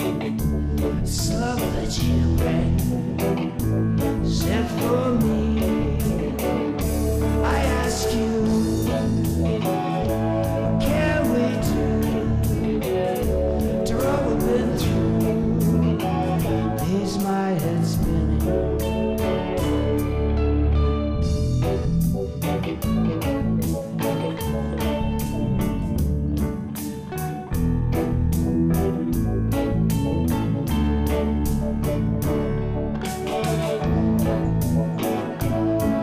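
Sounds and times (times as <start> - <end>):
bending sliding guitar lines: 0.0 - 36.0
blues-rock band music: 0.0 - 36.0.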